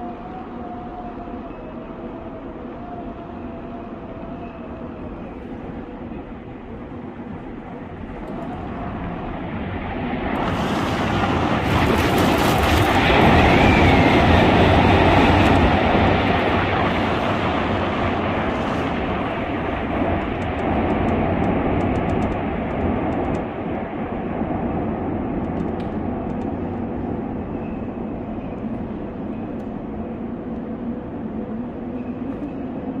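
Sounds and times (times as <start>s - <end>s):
train rushing through station: 0.0s - 33.0s.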